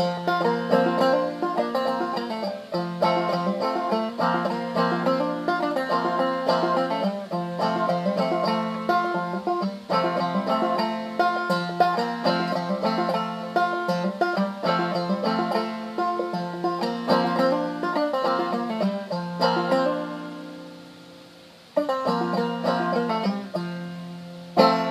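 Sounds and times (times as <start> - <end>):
banjo plucked melody: 0.0 - 24.9.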